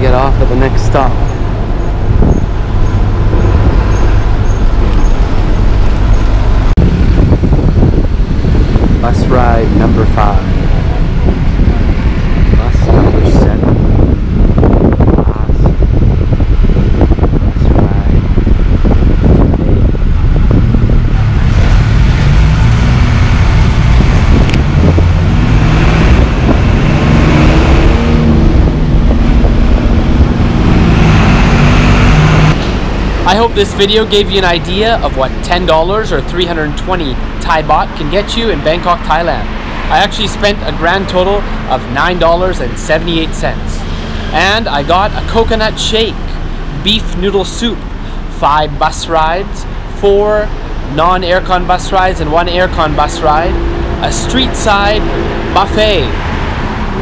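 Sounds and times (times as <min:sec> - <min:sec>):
bus engine and road rumble: 0:00.0 - 0:57.0
wind through open windows: 0:00.0 - 0:57.0.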